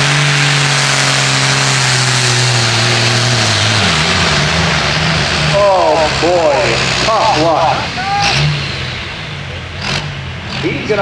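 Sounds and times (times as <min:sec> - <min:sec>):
tractor engine running loud: 0:00.0 - 0:11.0.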